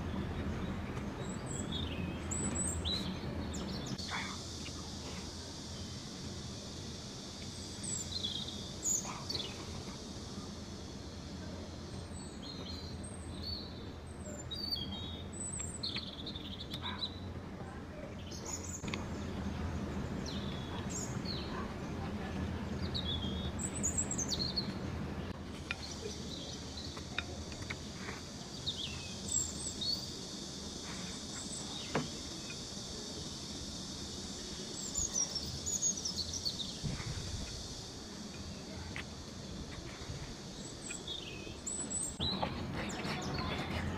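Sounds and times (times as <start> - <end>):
high-pitched background hiss: 0.0 - 43.9
small birds chirping: 0.0 - 43.9.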